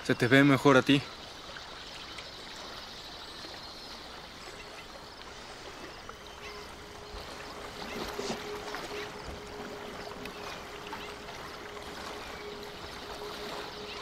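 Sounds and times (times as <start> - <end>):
river water lapping and trickling: 0.0 - 14.0.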